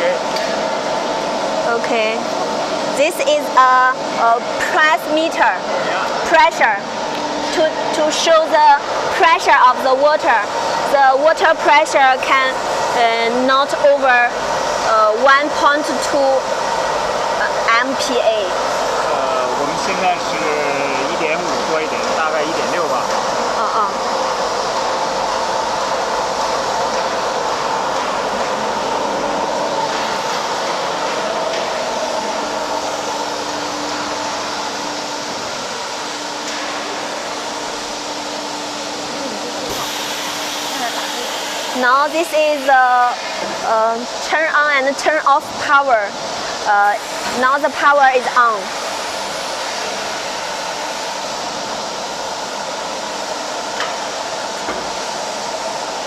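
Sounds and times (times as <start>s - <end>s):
cooling tower whooshing hum: 0.0s - 56.0s
rushing machine noise: 0.0s - 56.0s.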